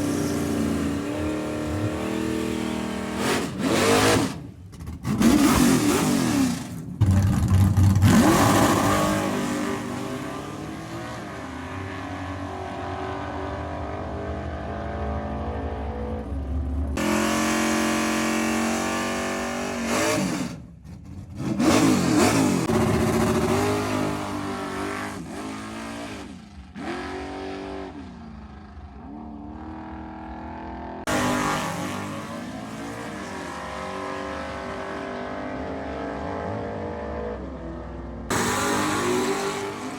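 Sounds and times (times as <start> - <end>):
car engine revving and accelerating: 0.0 - 4.4, 8.0 - 20.6, 21.3 - 39.9.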